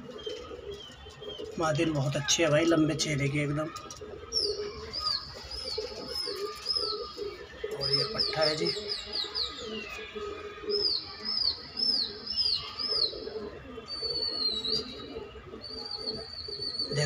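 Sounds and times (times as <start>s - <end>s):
pigeon cooing: 0.0s - 17.0s.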